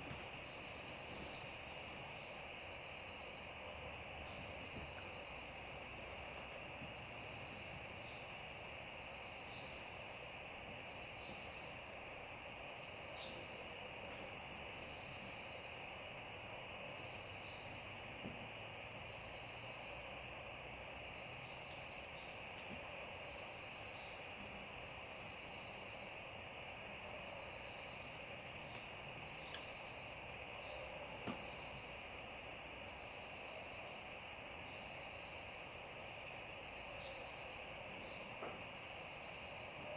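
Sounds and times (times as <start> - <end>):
crickets trilling: 0.0 - 39.9
insect chirping: 0.1 - 39.9.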